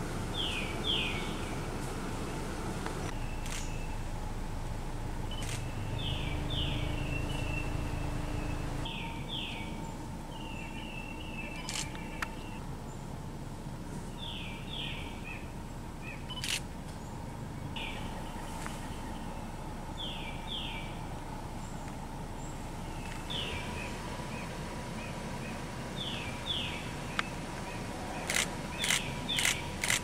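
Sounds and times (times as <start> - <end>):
low outdoor rumble: 0.0 - 30.0
songbird calling: 0.2 - 4.1, 5.2 - 13.1, 14.0 - 30.0.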